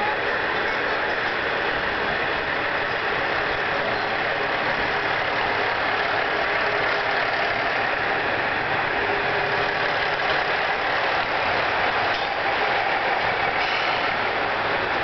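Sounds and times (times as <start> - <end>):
diesel railcar engine running: 0.0 - 15.0.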